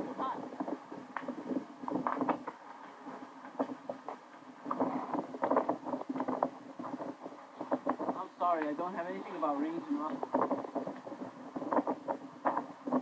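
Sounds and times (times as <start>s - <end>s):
burning house crackling and popping: 0.0s - 13.0s
steady low hum: 0.0s - 13.0s.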